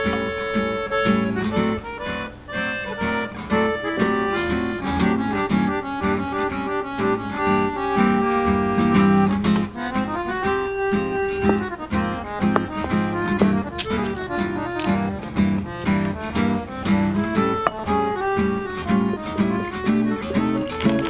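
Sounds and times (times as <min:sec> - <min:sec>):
gypsy swing music: 0:00.0 - 0:21.0.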